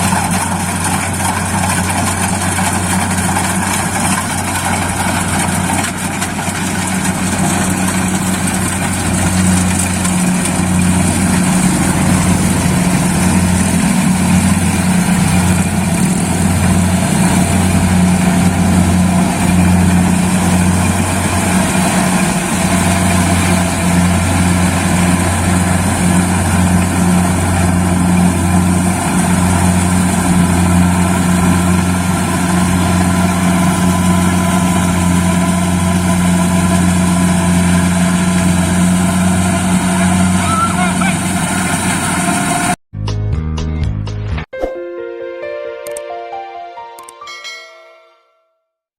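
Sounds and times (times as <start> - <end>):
combine harvester engine droning: 0.0 - 42.8.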